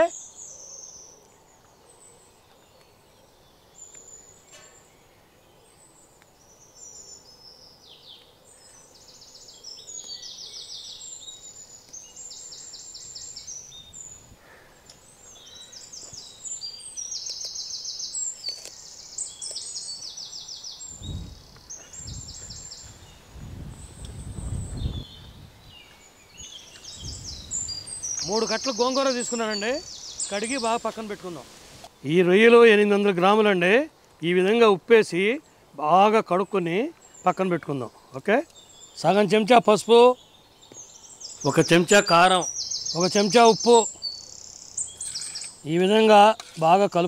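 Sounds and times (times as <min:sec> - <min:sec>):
faint outdoor hiss: 0:00.0 - 0:47.0
songbirds trilling and chirping: 0:00.0 - 0:47.0.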